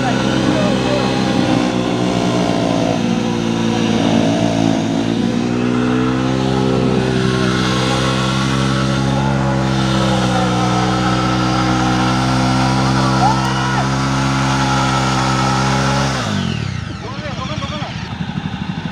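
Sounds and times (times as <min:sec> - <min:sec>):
motorcycle engine revving high: 0:00.0 - 0:18.9.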